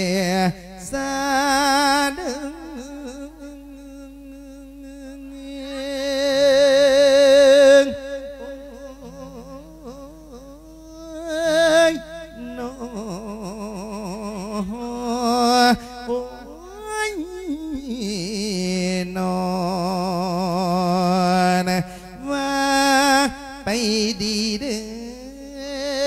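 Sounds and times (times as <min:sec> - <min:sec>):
monk chanting through microphone: 0:00.0 - 0:26.0.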